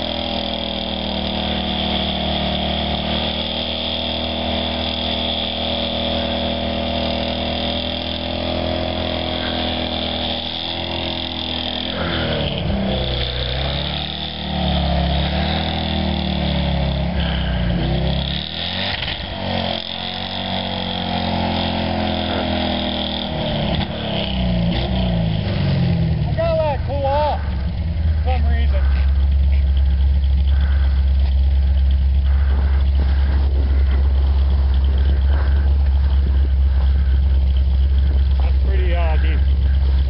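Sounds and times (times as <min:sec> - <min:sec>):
pickup truck engine revving: 0:00.0 - 0:40.0
wheels spinning in snow: 0:00.0 - 0:40.0.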